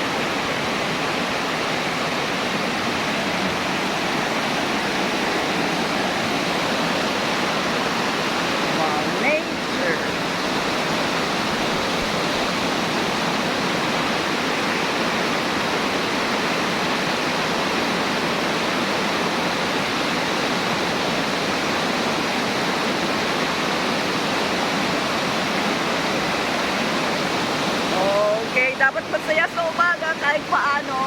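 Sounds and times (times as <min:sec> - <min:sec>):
rushing falling water: 0:00.0 - 0:31.0.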